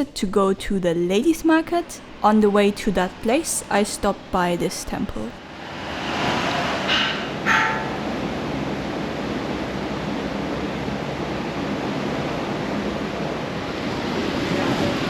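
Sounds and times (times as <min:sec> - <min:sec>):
moving train rushing: 0:00.7 - 0:15.0.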